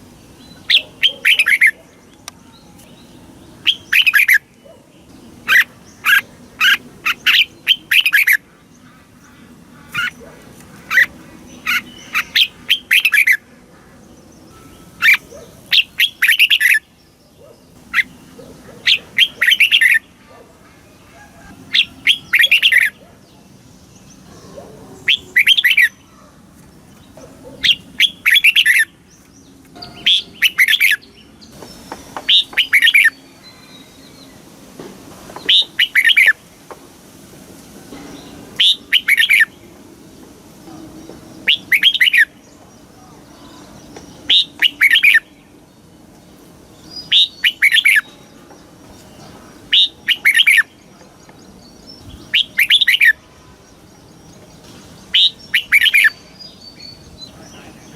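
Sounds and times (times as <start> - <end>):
bulbul singing chirping phrases: 0.0 - 26.3, 27.0 - 31.5, 32.2 - 34.5, 35.5 - 36.5, 38.6 - 57.9.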